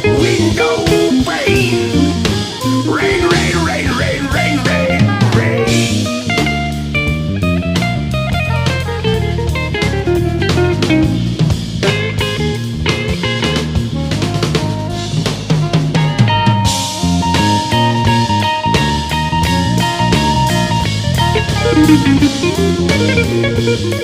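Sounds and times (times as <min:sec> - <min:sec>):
bass line: 0:00.0 - 0:24.0
drum kit beat: 0:00.0 - 0:24.0
electric guitar: 0:00.0 - 0:24.0.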